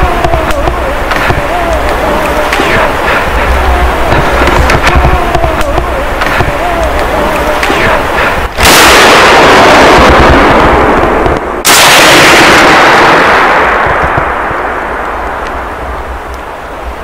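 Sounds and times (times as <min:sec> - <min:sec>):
very loud blasts: 0:00.0 - 0:17.0.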